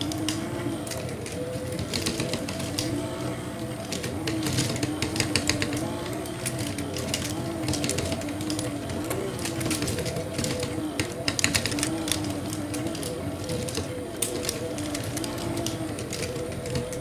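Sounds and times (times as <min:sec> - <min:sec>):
motor hum: 0:00.0 - 0:17.0
plastic gears clicking and rattling: 0:00.0 - 0:17.0.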